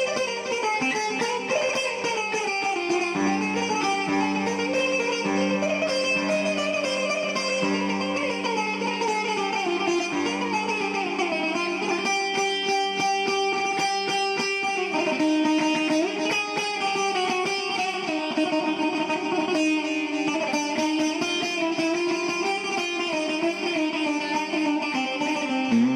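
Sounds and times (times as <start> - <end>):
plucked string instrumental music: 0.0 - 25.9.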